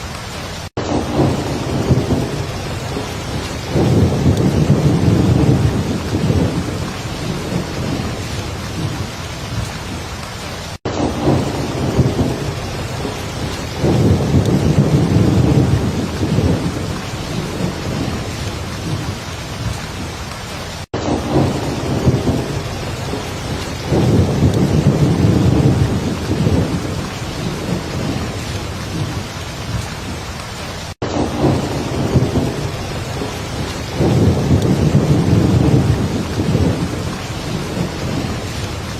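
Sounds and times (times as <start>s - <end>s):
heavy rain falling: 0.0s - 38.9s
rolling thunder rumbles: 0.4s - 38.9s.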